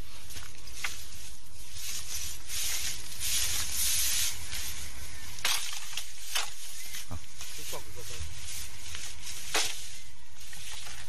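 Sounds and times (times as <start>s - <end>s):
brush rustling and crackling: 0.0s - 11.0s.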